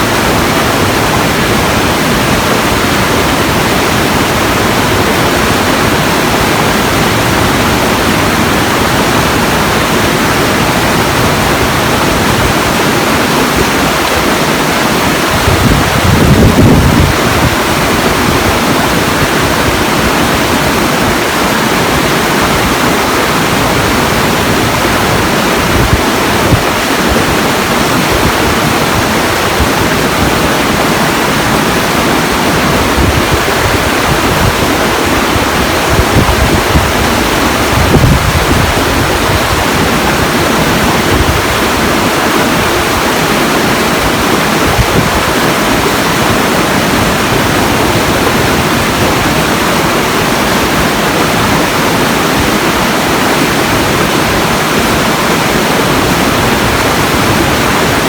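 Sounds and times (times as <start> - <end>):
loud rushing water: 0.0 - 58.0.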